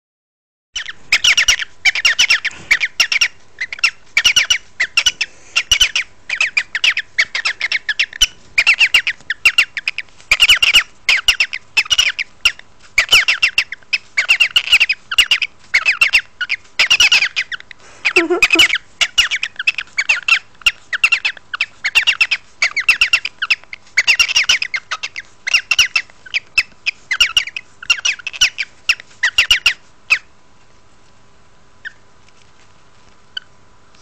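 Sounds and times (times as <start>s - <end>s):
cockatiel squawking: 0.8s - 30.3s.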